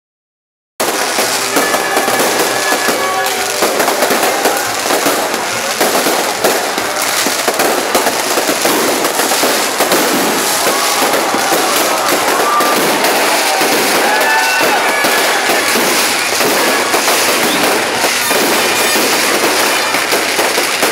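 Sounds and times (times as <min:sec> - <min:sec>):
fireworks crackling and popping: 0:00.8 - 0:20.9.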